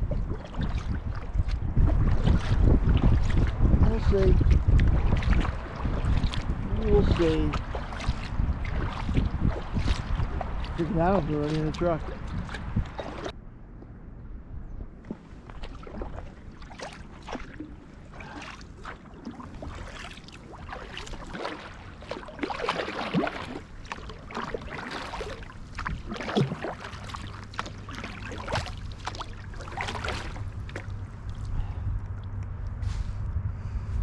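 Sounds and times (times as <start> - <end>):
kayak and paddle knocks and splashes: 0.0 - 13.3, 15.0 - 31.5
steady low hum: 0.0 - 34.0.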